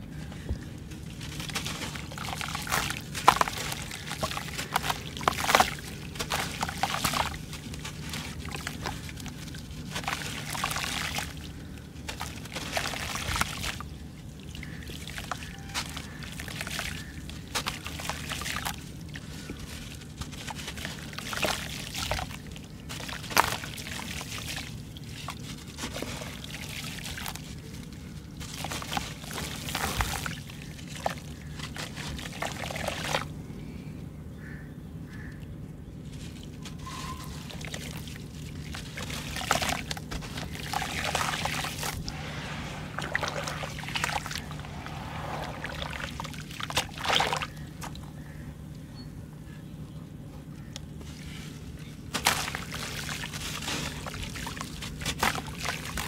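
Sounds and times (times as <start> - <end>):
water and grit dripping into water: 0.0 - 33.4, 35.2 - 48.9, 50.4 - 56.0.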